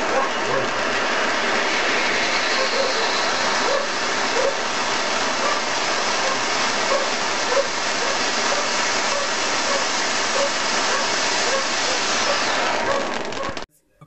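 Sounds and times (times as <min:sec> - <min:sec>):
firework crackles: 0:00.0 - 0:13.7
firework fountain hissing: 0:00.0 - 0:13.7.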